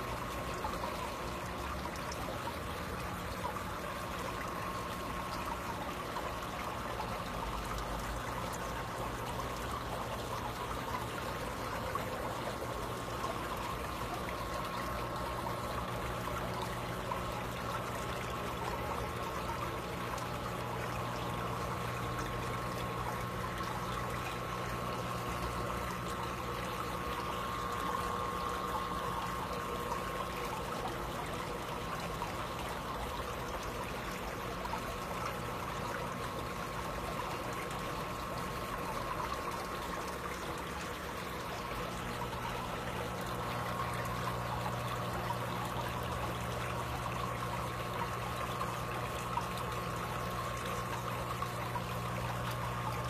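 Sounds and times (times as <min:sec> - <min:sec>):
filter pump hum: 0:00.0 - 0:53.0
water trickling into aquarium: 0:00.0 - 0:53.0.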